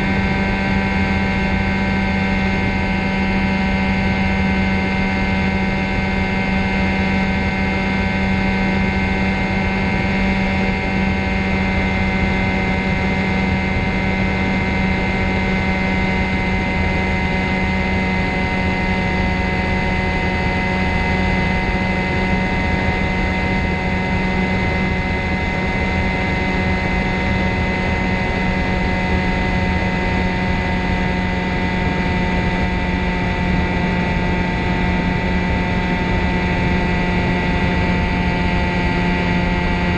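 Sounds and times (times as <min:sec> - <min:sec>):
engine and propeller droning: 0:00.0 - 0:39.9.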